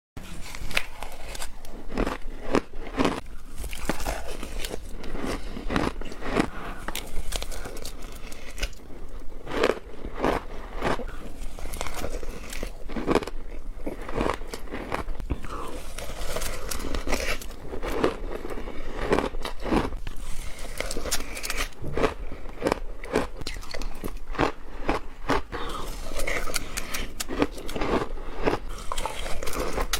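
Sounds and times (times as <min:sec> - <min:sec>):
shaved ice crunching when chewed: 0:00.2 - 0:29.9.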